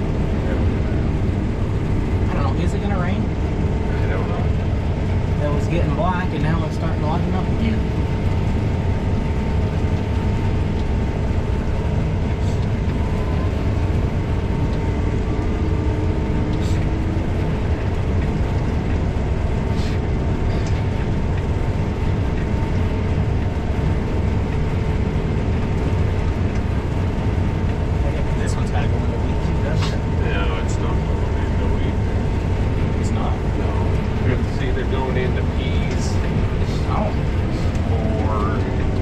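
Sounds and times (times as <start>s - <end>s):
combine harvester drone: 0.0s - 39.0s
steady whine: 0.0s - 39.0s.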